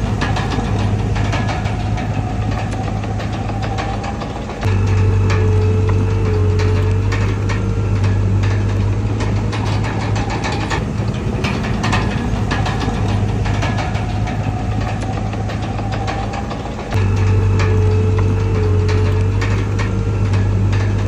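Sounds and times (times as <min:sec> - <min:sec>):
bulldozer diesel engine running: 0:00.0 - 0:21.0
machine knocks and clanks: 0:00.0 - 0:21.0.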